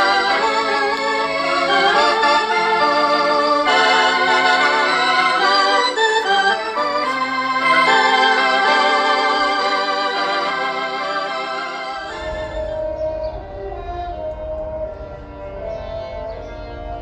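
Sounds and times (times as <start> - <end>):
electric organ melody: 0.0 - 17.0.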